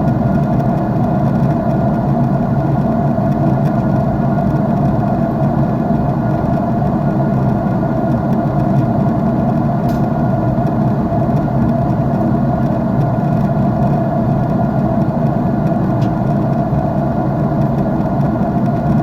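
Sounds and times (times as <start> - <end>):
jet engine cabin drone: 0.0 - 19.0.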